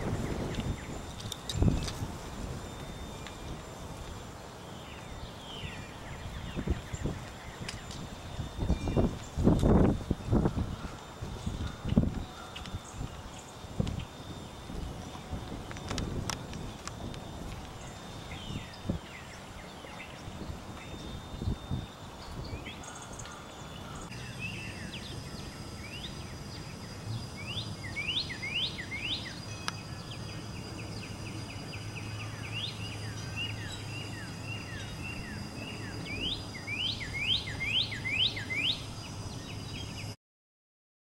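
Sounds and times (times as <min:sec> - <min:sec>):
low hum: 0:00.0 - 0:40.2
steady high-pitched tone: 0:00.0 - 0:40.2
birds chirping: 0:02.7 - 0:40.2.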